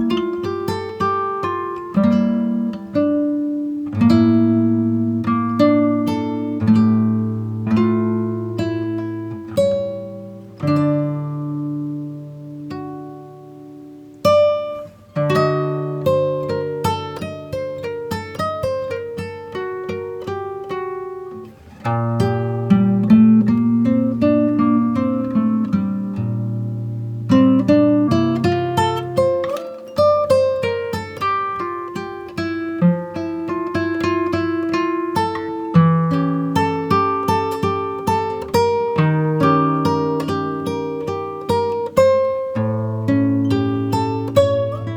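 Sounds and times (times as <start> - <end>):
picked acoustic guitar: 0.0 - 44.9.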